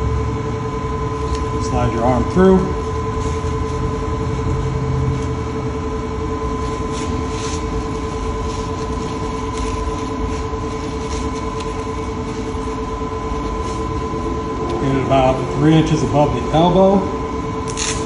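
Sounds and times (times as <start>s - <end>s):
shop machinery humming: 0.0s - 18.0s.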